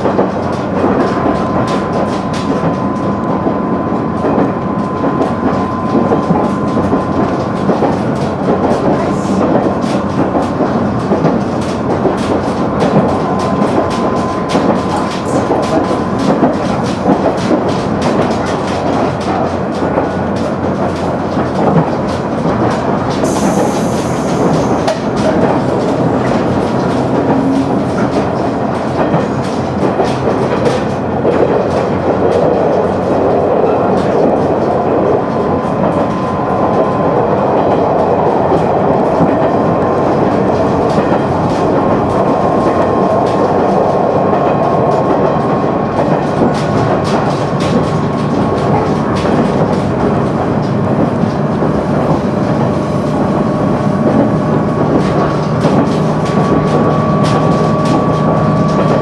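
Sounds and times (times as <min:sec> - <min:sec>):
diesel railcar rumble: 0:00.0 - 0:59.0.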